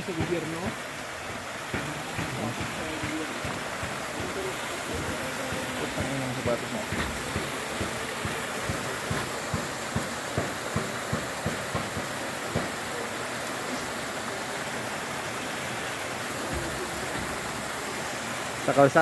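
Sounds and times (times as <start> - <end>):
creek water running over stones: 0.0 - 19.0.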